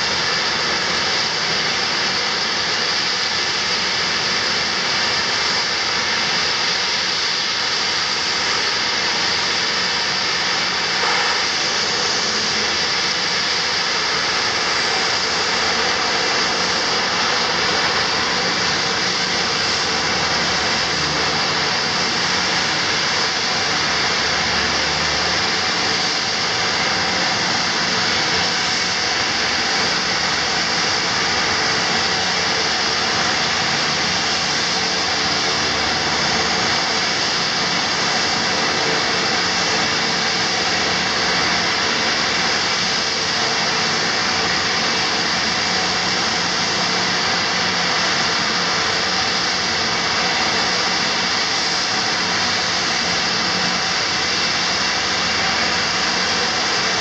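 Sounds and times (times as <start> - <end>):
turboprop engines idling: 0.0 - 57.0.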